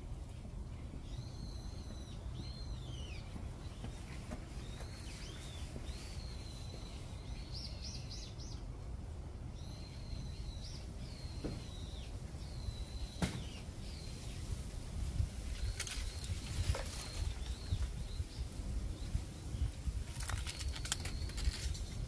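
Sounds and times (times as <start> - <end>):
low background noise: 0.0 - 22.0
small birds whistling: 1.0 - 8.6, 9.6 - 14.5, 15.5 - 22.0.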